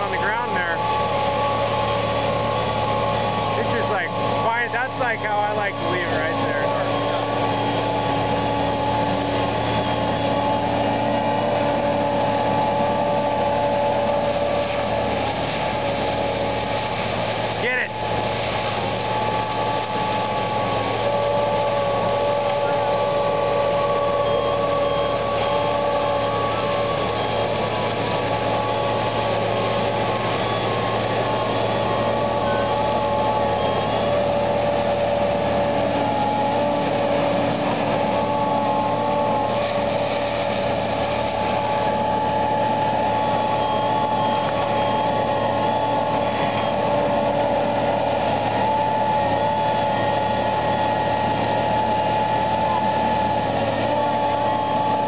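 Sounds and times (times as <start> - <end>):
brush mulcher droning: 0.0 - 55.0
machine whining tones: 0.0 - 55.0.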